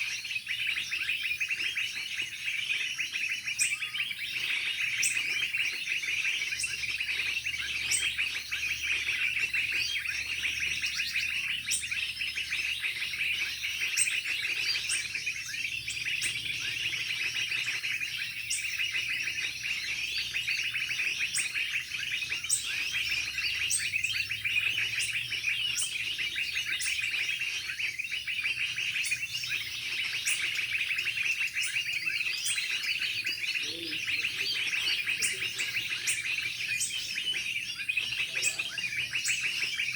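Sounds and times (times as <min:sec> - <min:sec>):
birds chirping: 0:00.0 - 0:39.9
sharp high-pitched bird notes: 0:00.0 - 0:39.9.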